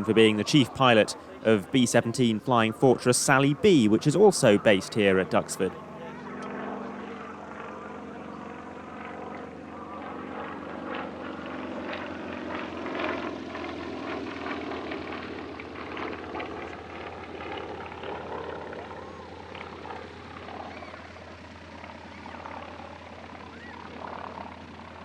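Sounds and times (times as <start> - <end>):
radial aircraft engine and propeller: 0.0 - 25.0.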